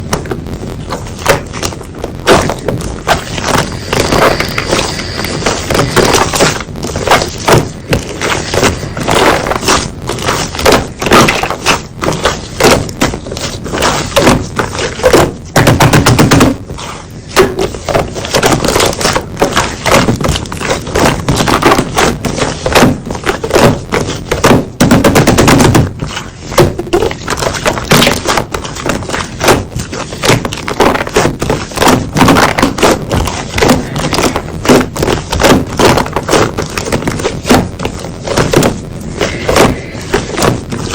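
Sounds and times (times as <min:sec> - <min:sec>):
slime popping and crackling: 0:00.0 - 0:40.9.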